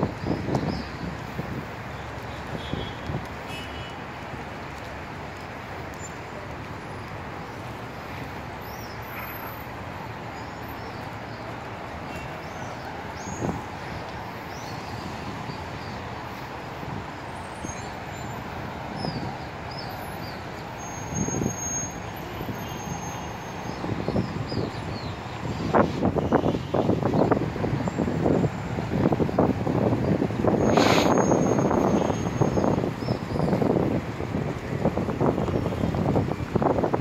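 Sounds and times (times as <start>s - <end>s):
road traffic noise: 0.0s - 37.0s.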